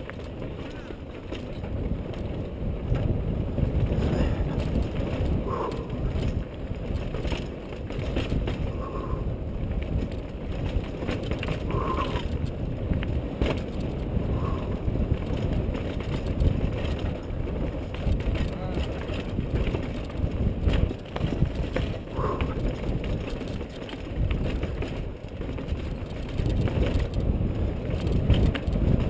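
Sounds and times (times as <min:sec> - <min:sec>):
bike frame rattles: 0:00.0 - 0:29.0
tyre rumble: 0:00.0 - 0:29.0
wind buffeting microphone: 0:00.0 - 0:29.0.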